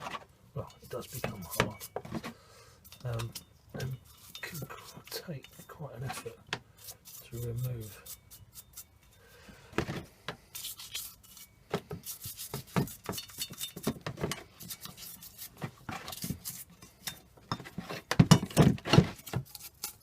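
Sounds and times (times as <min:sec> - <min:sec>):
brush scrubbing metal parts: 0:00.0 - 0:02.2, 0:02.8 - 0:09.3, 0:10.4 - 0:20.0.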